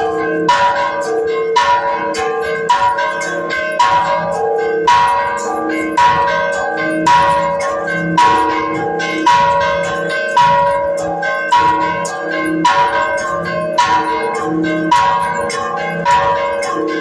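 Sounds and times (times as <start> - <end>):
church bells rung by hand: 0.0 - 17.0.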